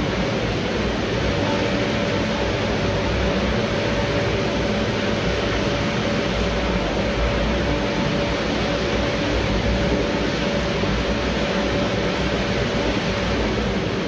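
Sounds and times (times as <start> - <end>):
constant motor hum: 0.0 - 14.0.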